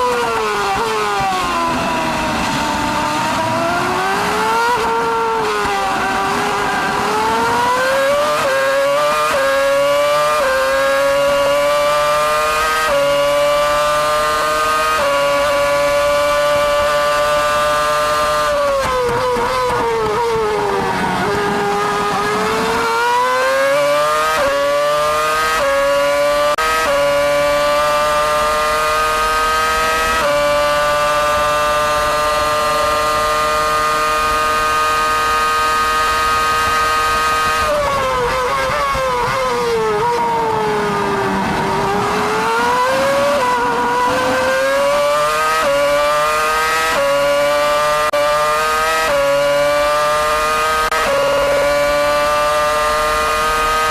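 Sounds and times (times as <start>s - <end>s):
racing car engine at high revs: 0.0s - 53.9s.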